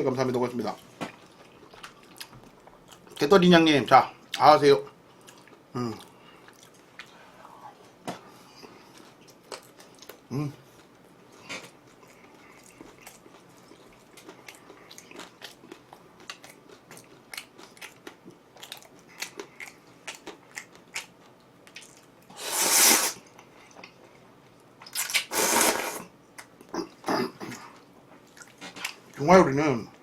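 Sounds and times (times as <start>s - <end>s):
person chewing food: 0.8s - 3.2s, 5.0s - 7.4s, 8.4s - 29.2s.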